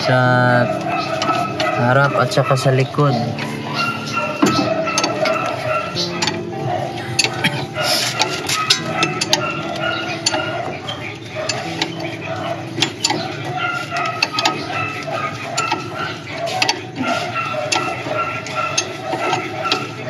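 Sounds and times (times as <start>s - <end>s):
hand tools clinking on metal: 0.0s - 20.0s.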